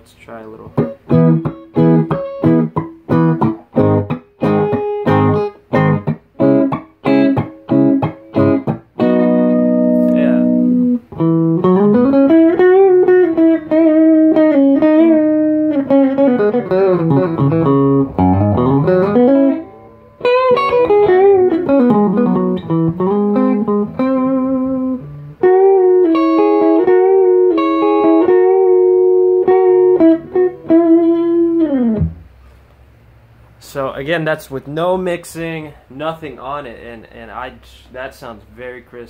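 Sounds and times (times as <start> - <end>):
clean electric guitar melody: 0.7 - 32.3.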